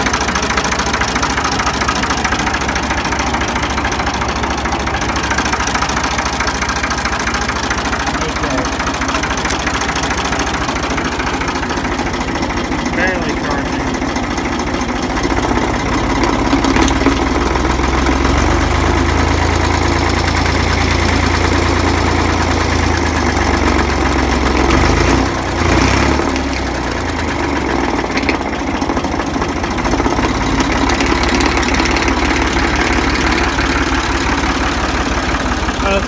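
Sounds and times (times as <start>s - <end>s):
tractor engine idling: 0.0s - 36.0s.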